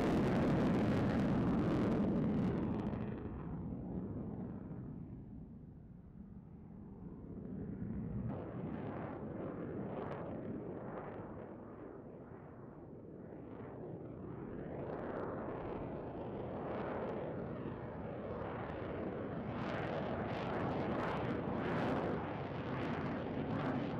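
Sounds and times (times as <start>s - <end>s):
fighter jet engine rumble with crackle: 0.0s - 23.9s.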